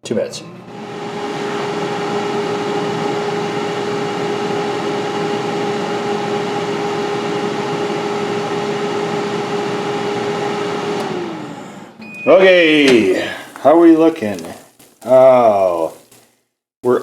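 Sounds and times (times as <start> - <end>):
air fryer fan humming: 0.2 - 14.4.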